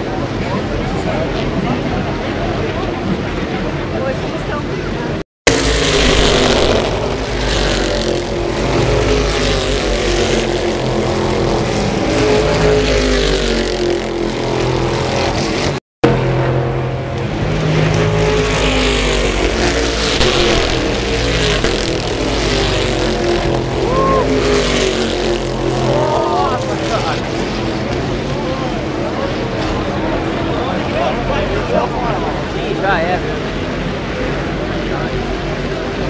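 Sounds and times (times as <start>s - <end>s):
racing car engines passing: 0.0s - 36.0s.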